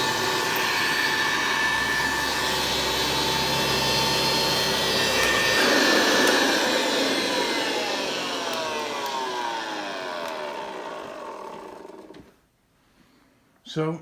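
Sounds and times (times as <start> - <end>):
vacuum cleaner motor winding down: 0.0 - 12.4.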